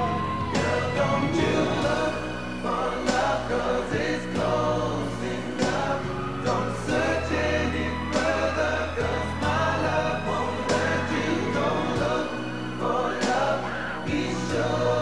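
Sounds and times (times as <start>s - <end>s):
backing music with beat: 0.0s - 15.0s
male vocal group singing: 0.0s - 15.0s.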